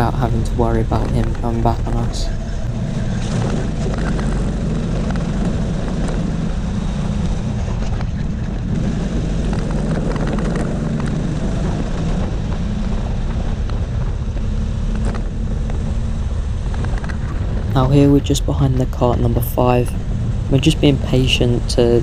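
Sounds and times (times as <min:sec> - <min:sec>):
kart engine running: 0:00.0 - 0:22.0.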